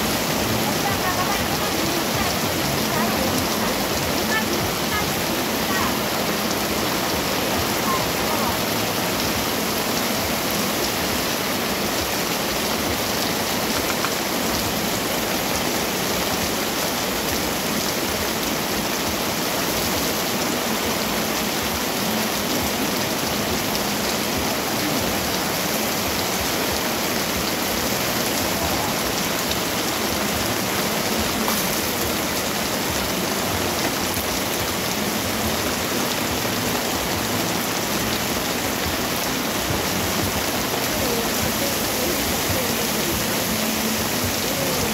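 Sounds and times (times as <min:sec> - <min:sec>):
heavy rain on pavement: 0:00.0 - 0:44.9.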